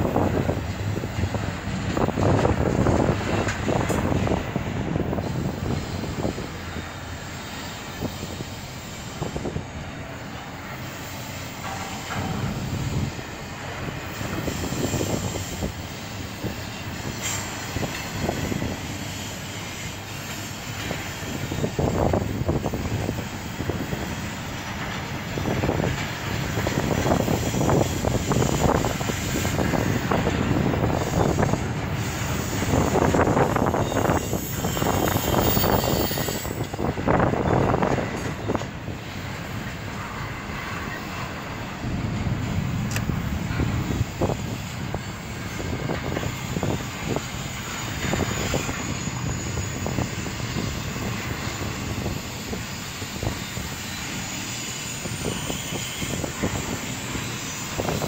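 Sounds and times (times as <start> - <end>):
train cars clanking: 0.0 - 58.0
train wheels rumbling on rail: 0.0 - 58.0.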